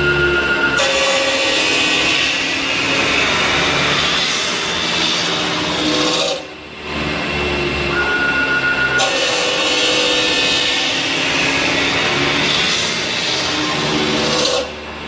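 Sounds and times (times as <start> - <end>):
machine spindle running: 0.0 - 15.0.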